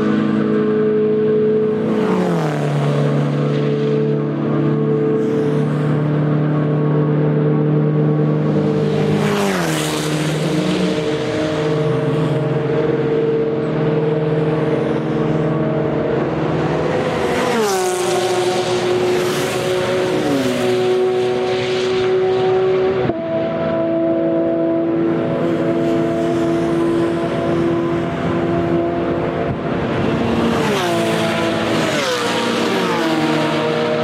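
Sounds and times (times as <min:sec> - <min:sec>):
race cars passing at speed: 0:00.0 - 0:34.0.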